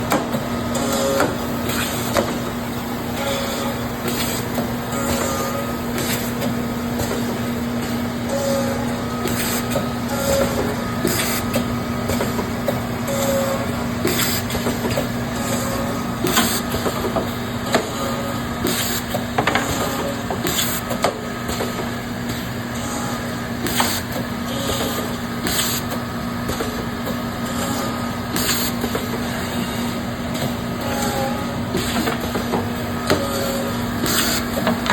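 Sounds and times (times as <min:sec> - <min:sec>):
machine motor hum: 0:00.0 - 0:34.9.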